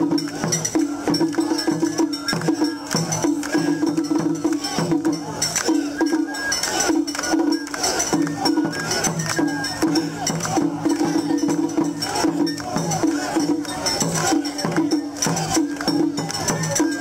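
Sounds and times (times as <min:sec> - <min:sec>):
crowd voices: 0:00.0 - 0:17.0
light rattling percussion: 0:00.0 - 0:17.0.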